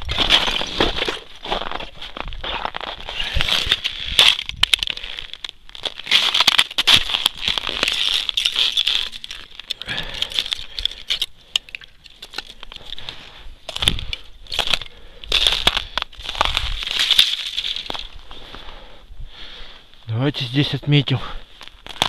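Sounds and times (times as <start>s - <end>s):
footsteps crunching on frozen snow: 0.0s - 11.3s, 12.0s - 18.9s, 20.6s - 22.0s.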